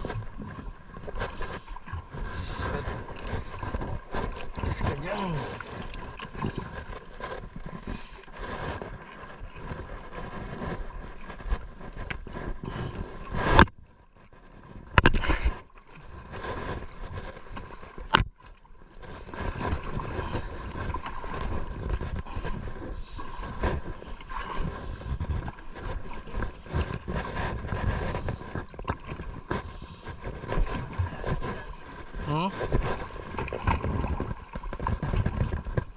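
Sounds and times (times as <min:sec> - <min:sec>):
water lapping against boat hull: 0:00.0 - 0:35.9.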